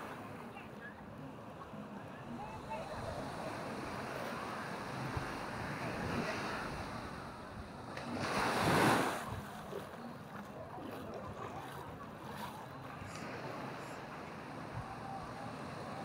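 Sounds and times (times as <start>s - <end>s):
sea waves breaking on beach: 2.3s - 16.0s.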